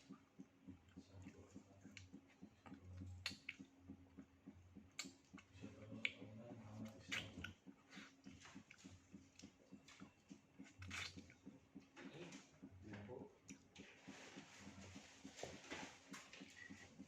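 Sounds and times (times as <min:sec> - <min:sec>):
wet chewing mouth clicks: 0:00.0 - 0:15.4, 0:16.1 - 0:17.0.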